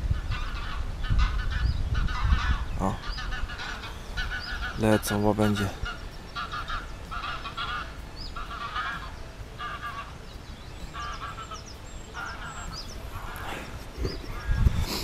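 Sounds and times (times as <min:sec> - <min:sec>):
waterfowl honking: 0:00.0 - 0:14.9
songbirds chirping: 0:00.0 - 0:15.0.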